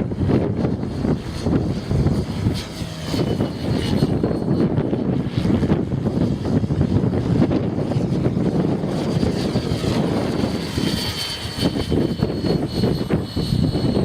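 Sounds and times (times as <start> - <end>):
rc helicopter motor whine: 0.0 - 14.0
wind buffeting microphone: 0.0 - 14.0.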